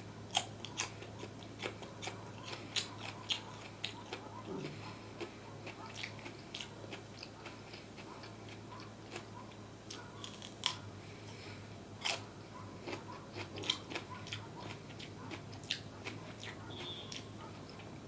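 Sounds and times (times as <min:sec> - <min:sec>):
chewing: 0:00.3 - 0:18.0.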